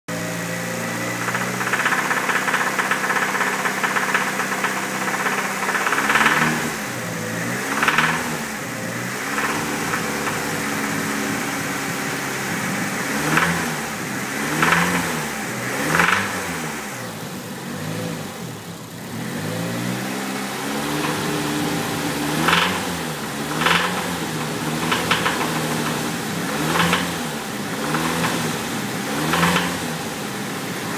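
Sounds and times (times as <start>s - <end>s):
engine knocking: 0.1s - 17.2s, 20.7s - 30.9s
car engine revving: 0.1s - 30.9s.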